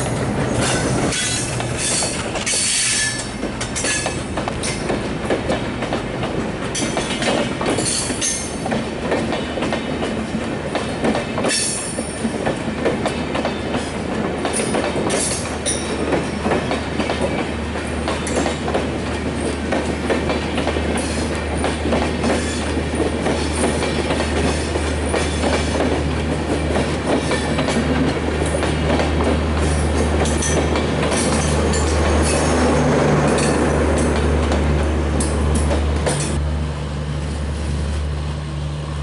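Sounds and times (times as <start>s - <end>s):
train wheels clattering over rails: 0.0s - 36.4s.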